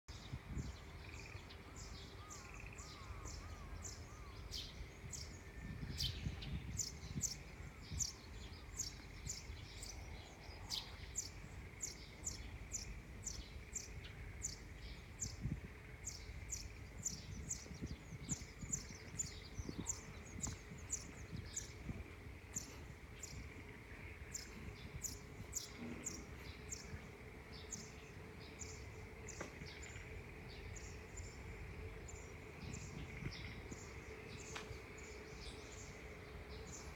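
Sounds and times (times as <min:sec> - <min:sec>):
low background rumble: 0:00.1 - 0:36.9
songbirds chirping: 0:00.1 - 0:36.9.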